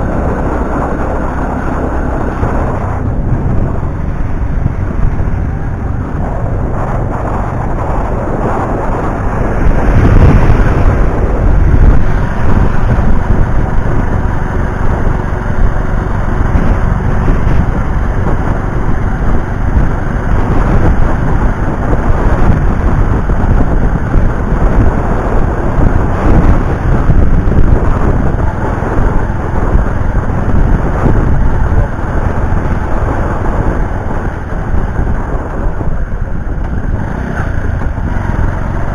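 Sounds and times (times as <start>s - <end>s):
vehicle road noise: 0.0s - 38.9s
wind on microphone: 0.0s - 38.9s.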